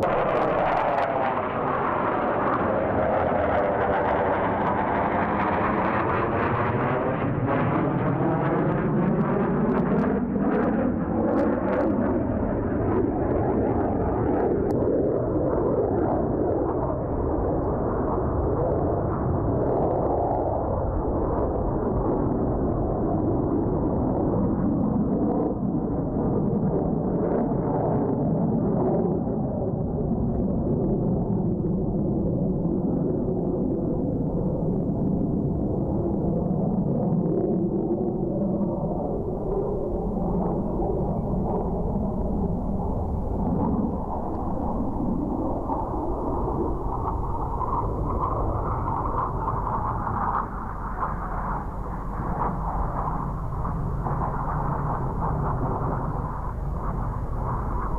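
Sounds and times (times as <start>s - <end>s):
jet roar: 0.0s - 57.9s.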